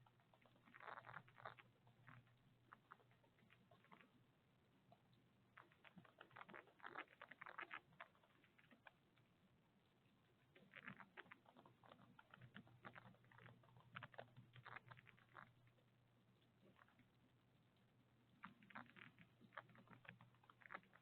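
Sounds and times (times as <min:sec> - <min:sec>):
faint clicking and scratching: 0:00.0 - 0:21.0.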